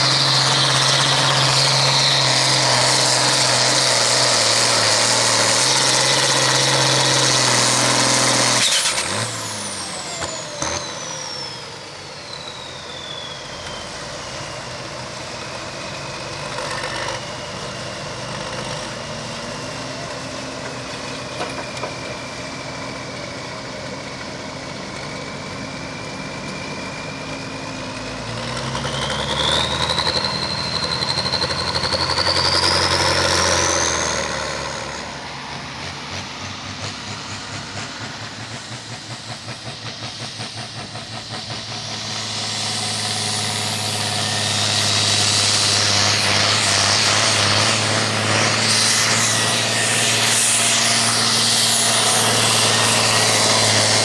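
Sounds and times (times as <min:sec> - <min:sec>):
diesel tractor engine with turbo whine: 0:00.0 - 0:54.0
tractor engine revving with rushing hiss: 0:00.0 - 0:54.0.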